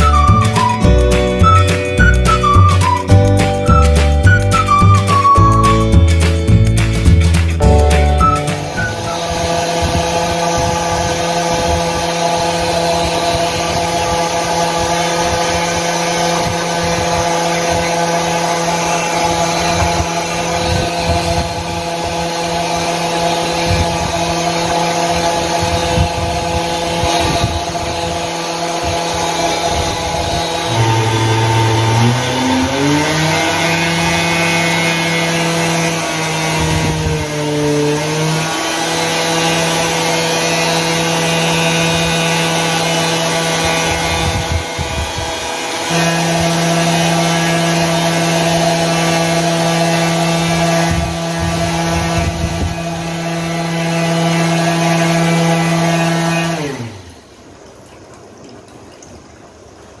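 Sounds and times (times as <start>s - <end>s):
motor winding down: 0.0s - 57.3s
motor and fan whining: 0.0s - 57.6s.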